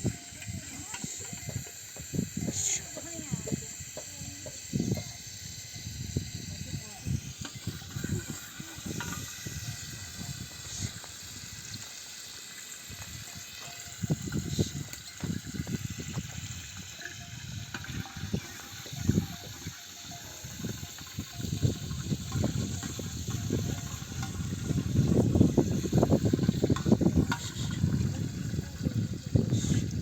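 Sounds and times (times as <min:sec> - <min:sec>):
wind buffeting microphone: 0:00.0 - 0:11.8, 0:12.8 - 0:30.0.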